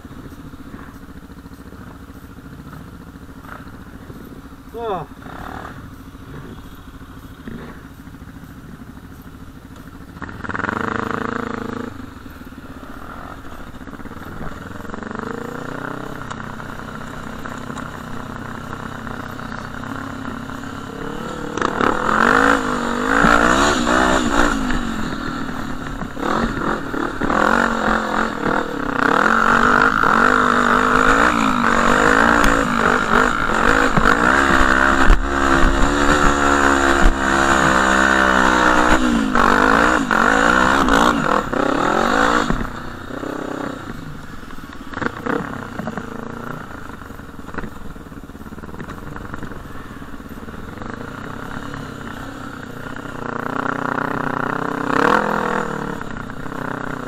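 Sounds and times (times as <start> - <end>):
quad bike engine revving: 0.0 - 57.0.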